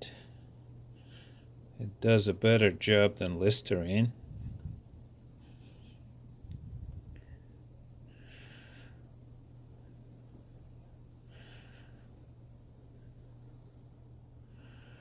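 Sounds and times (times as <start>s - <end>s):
steady low hum: 0.0s - 15.0s
cotton pad rubbing a screen: 0.2s - 14.0s.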